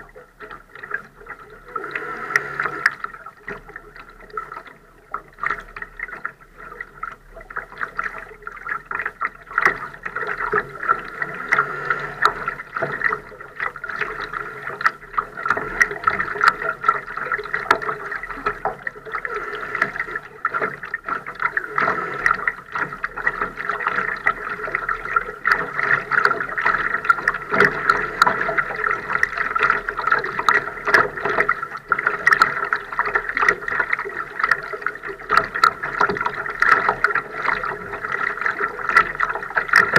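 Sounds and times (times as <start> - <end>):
water splashing against boat hull: 0.0 - 39.9.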